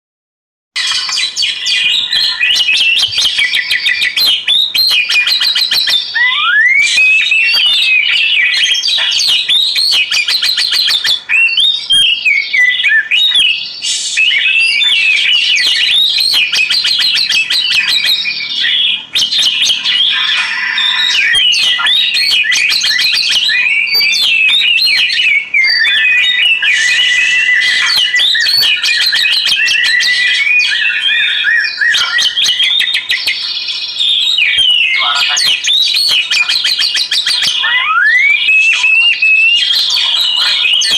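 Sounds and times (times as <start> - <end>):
songbird singing varied song: 0.8 - 40.9.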